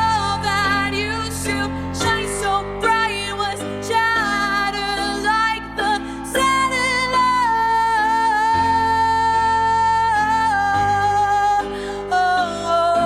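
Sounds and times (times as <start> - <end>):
acoustic accompaniment: 0.0 - 13.0
woman singing with vibrato: 0.0 - 13.0.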